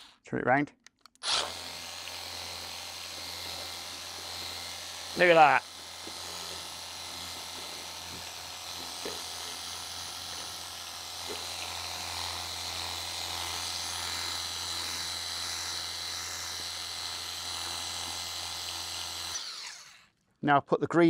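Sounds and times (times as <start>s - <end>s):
pressure washer pump humming: 1.2s - 20.0s.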